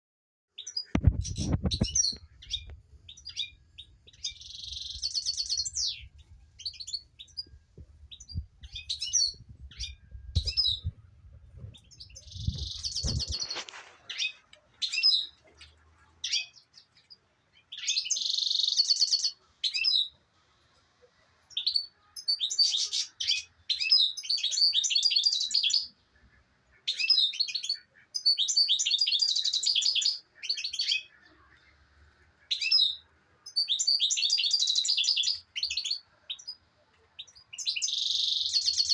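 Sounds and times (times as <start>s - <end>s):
songbird singing trills: 0.6s - 20.2s, 21.5s - 26.0s, 26.9s - 31.7s, 32.5s - 38.9s.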